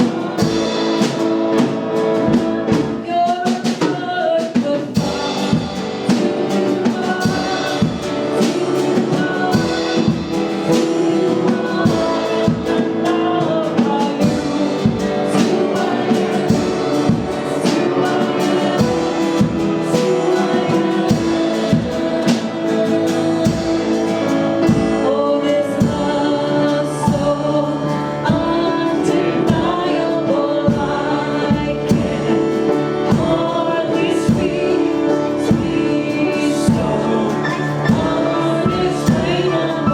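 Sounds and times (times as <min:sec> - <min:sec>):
band playing: 0:00.0 - 0:39.9
drum kit steady beat: 0:00.0 - 0:39.9
voices singing together: 0:00.0 - 0:39.9.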